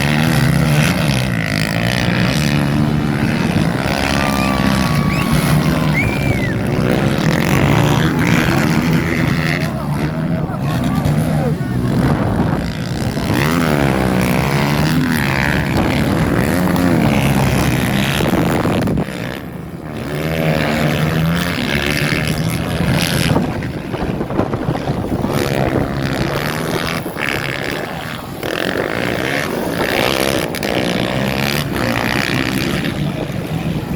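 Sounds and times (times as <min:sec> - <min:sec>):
motocross engines revving: 0:00.0 - 0:33.9
wind noise on microphone: 0:00.0 - 0:33.9.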